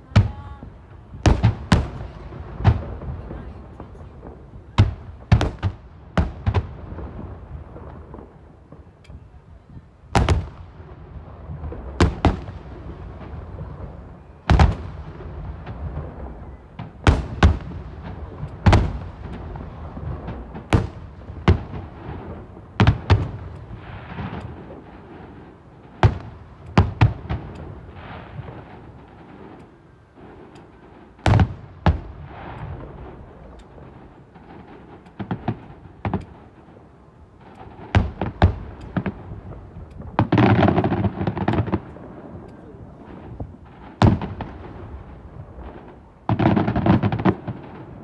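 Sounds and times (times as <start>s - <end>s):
rapid crackling firework bursts: 0.0s - 9.0s, 10.1s - 36.8s, 37.4s - 48.0s
fireworks bangs: 0.0s - 48.0s.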